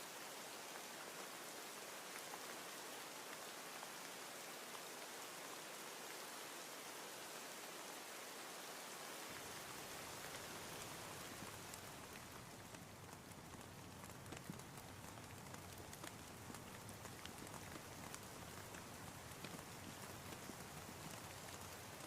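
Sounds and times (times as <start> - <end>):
faint steady rain: 0.0 - 22.0.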